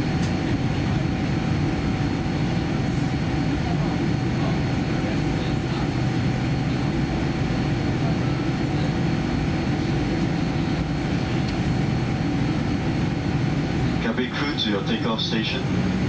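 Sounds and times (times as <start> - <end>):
aircraft cabin rumble: 0.0 - 16.0
faint steady whine: 0.0 - 16.0.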